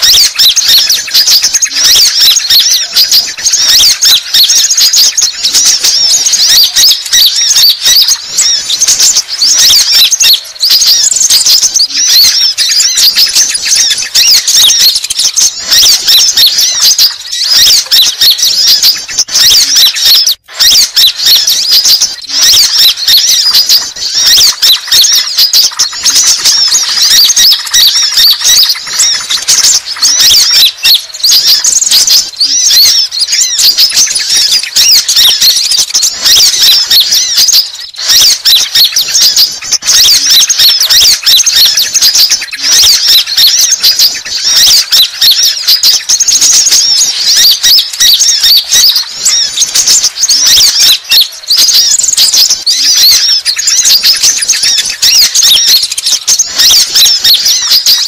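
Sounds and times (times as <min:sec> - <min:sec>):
sunbird twittering song: 0:00.0 - 0:58.0.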